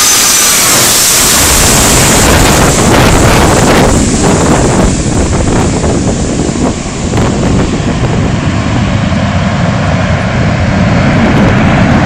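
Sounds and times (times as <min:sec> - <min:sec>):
jet engines running loud: 0:00.0 - 0:12.0
wind buffeting microphone: 0:00.0 - 0:12.0.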